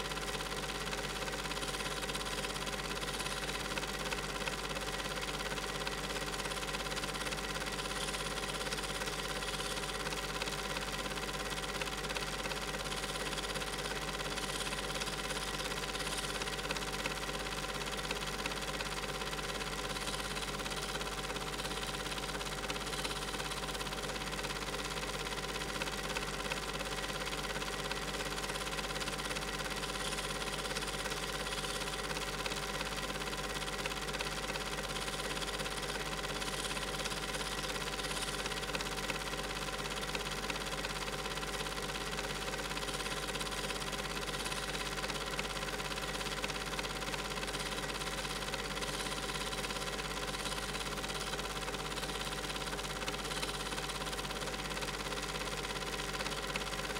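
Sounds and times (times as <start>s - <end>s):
small motor whirring: 0.0s - 56.9s.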